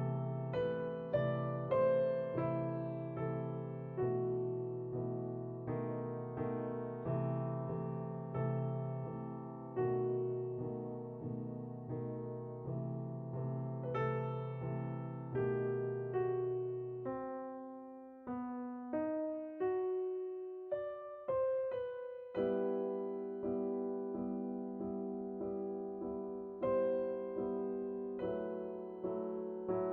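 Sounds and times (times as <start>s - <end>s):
soft piano music: 0.0s - 29.9s.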